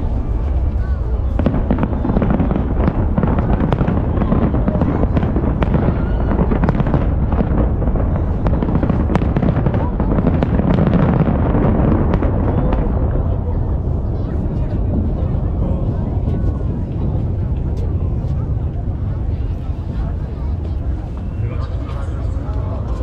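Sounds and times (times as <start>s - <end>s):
fireworks crackling and popping: 0.0s - 23.0s
low rumble: 0.0s - 23.0s.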